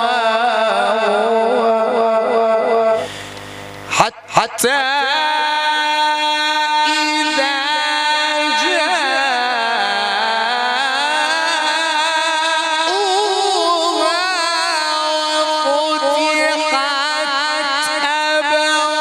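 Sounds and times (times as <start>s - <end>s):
man reciting melodically: 0.0s - 3.1s, 3.9s - 19.0s.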